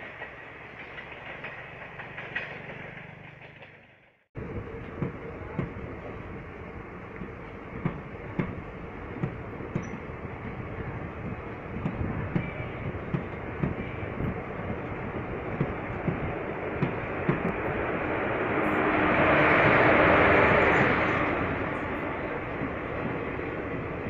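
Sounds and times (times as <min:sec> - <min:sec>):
train running: 0:00.0 - 0:24.0
train wheels clacking over rail joints: 0:00.0 - 0:24.0.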